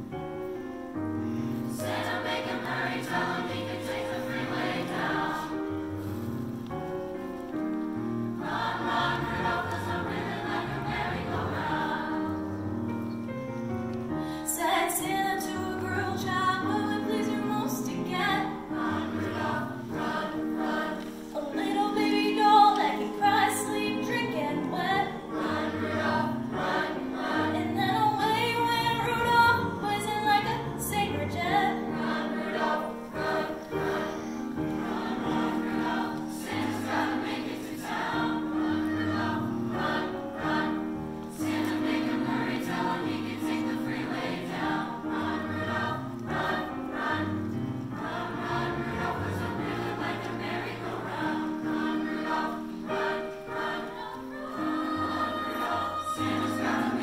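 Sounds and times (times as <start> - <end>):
piano accompaniment: 0.0 - 57.0
choir singing: 1.3 - 6.8, 7.4 - 57.0.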